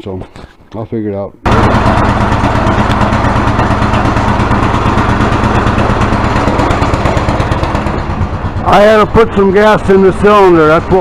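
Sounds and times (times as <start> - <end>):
snowblower engine running: 1.5 - 11.0.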